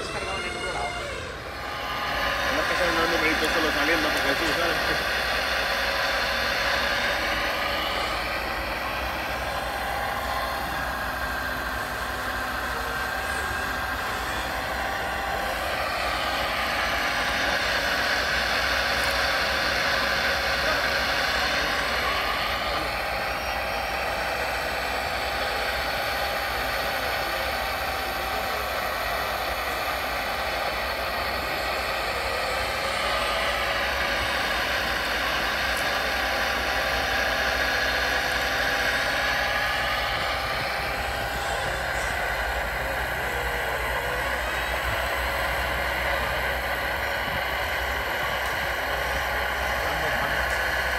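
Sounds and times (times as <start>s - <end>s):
model excavator mechanical drone: 0.0s - 50.9s
motor whine shifting pitch: 0.0s - 50.9s.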